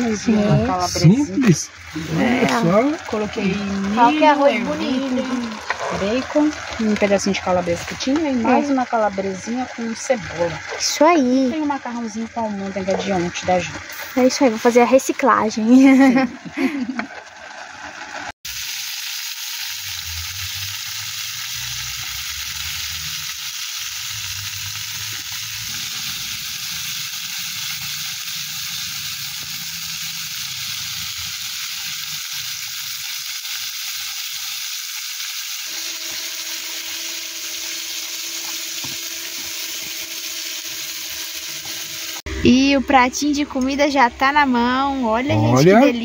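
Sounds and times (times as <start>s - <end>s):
sausage and onion sizzling in a pan: 0.0s - 42.6s, 43.2s - 46.0s.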